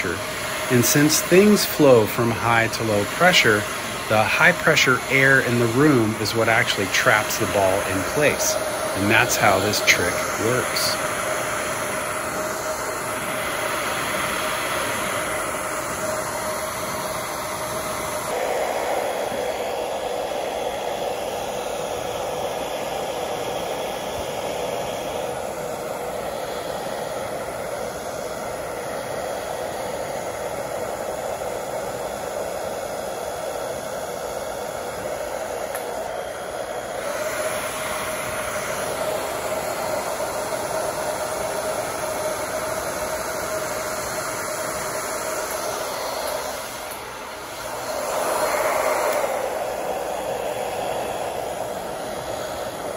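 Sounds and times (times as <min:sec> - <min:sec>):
hair dryer blowing: 0:00.0 - 0:52.9.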